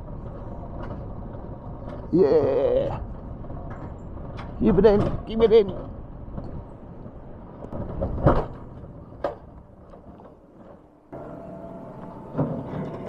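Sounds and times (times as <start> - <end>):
sled wheels rumbling on rails: 0.0 - 13.0
steady mechanical hum: 0.0 - 13.0.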